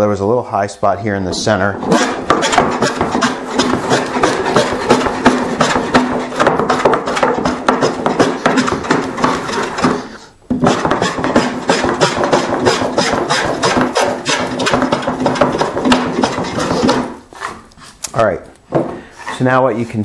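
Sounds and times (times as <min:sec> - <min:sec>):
hand plane cutting wood: 0:01.8 - 0:17.9.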